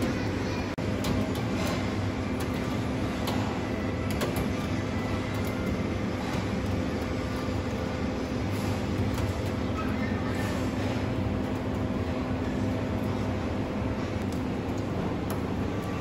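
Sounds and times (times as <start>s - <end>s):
kitchen equipment hum: 0.0s - 16.0s.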